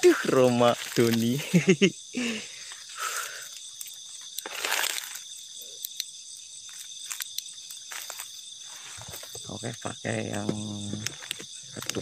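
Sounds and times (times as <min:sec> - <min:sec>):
crickets and night insects chirping: 0:00.0 - 0:12.0.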